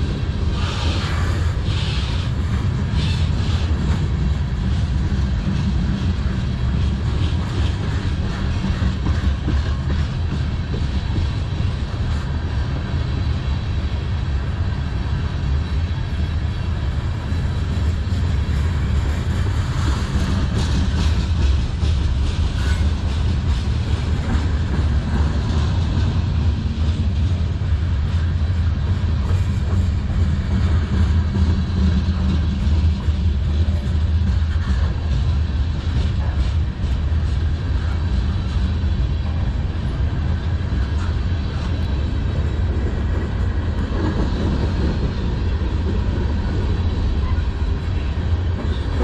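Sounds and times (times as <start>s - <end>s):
clicks of train wheels: 0.0s - 49.0s
freight train wheels rumbling on rails: 0.0s - 49.0s.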